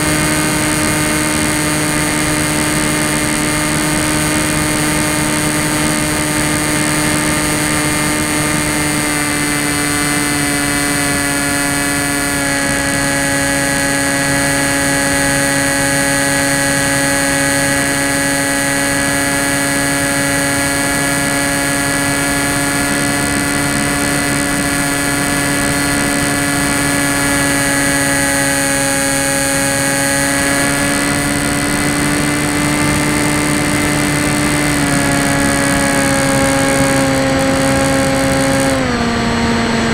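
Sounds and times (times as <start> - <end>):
electric motor and propeller buzzing: 0.0 - 39.9.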